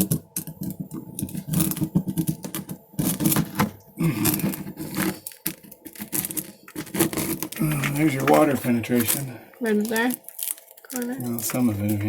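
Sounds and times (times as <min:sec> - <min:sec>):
hand tools clicking and scraping: 0:00.0 - 0:12.0.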